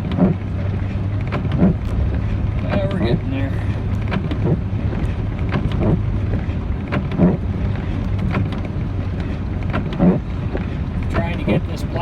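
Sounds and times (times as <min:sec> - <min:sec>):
road and snow noise: 0:00.0 - 0:12.0
vehicle engine hum: 0:00.0 - 0:12.0.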